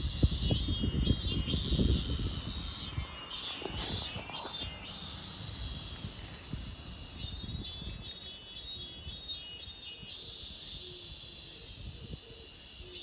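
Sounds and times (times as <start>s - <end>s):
insect buzzing call: 0.0s - 13.0s.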